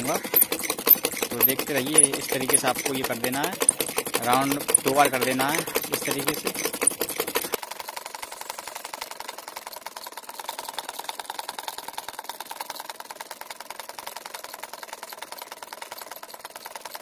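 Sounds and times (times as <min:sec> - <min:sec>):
sewing machine stitching: 0:00.0 - 0:17.0.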